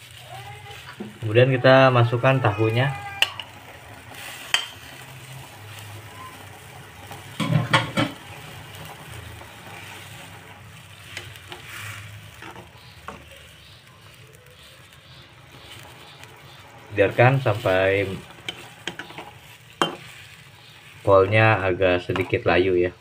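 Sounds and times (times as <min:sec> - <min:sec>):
spatula stirring in a wok: 0:00.0 - 0:22.5
broth simmering in a wok: 0:00.0 - 0:23.0
steady hiss: 0:00.0 - 0:23.0.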